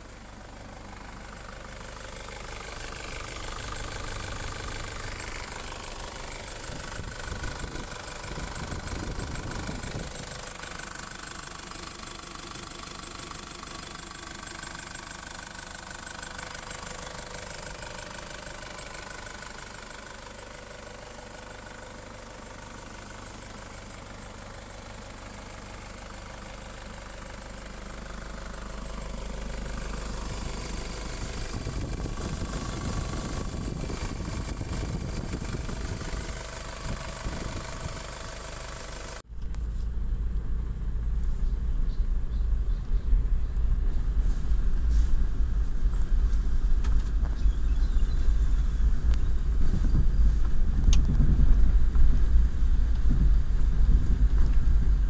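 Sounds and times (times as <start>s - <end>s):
diesel engine idling: 0.0s - 55.0s
vehicle driving rumble: 0.0s - 55.0s.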